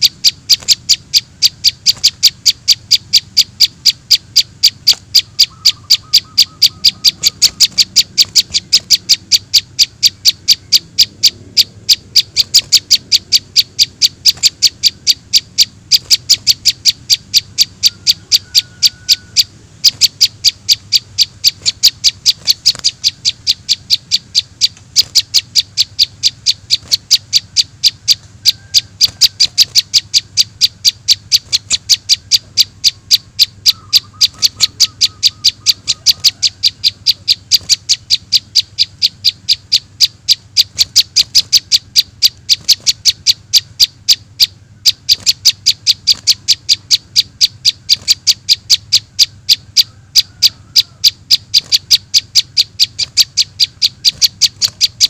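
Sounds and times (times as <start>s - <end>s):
lower whistled bird calls: 0.0s - 55.0s
repeated sharp high bird chirp: 0.0s - 55.0s.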